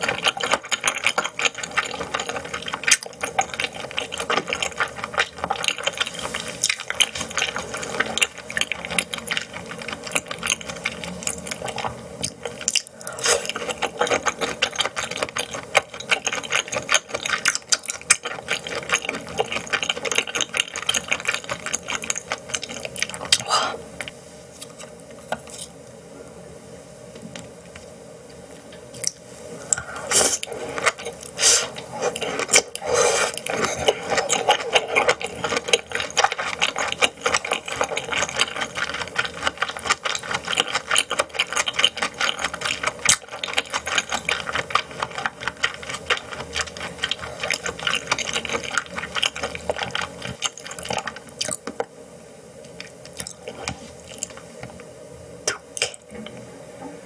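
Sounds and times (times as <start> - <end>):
chewing with wet mouth clicks: 0.0 - 23.5, 30.4 - 51.7, 52.7 - 54.5, 55.5 - 56.1.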